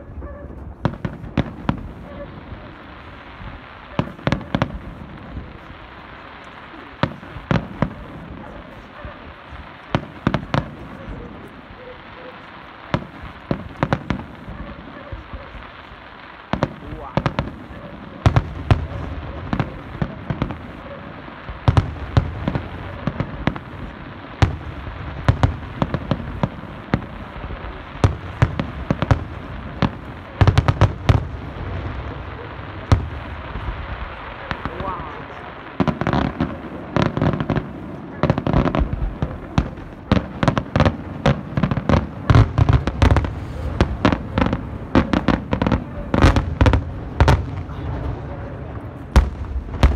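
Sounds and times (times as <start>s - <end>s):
fireworks bangs and cracks: 0.5s - 49.9s.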